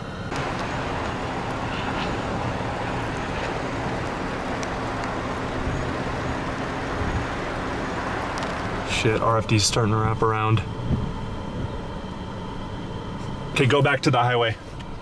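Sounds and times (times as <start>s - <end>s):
outdoor rushing noise: 0.0s - 15.0s.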